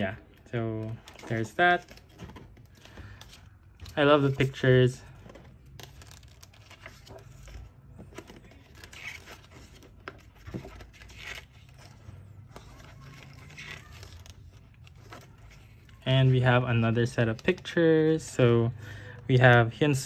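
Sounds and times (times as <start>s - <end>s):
paper pages rustling: 0.7s - 18.3s.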